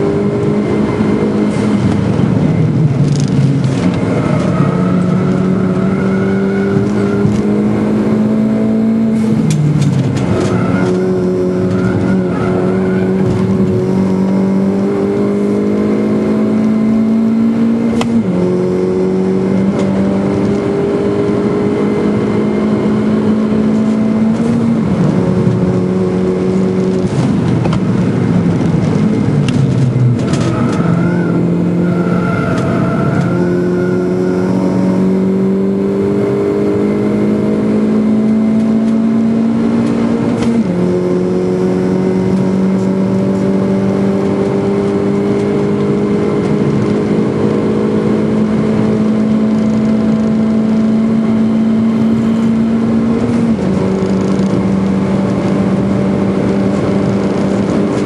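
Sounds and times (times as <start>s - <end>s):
racing car engine revving: 0.0s - 58.0s.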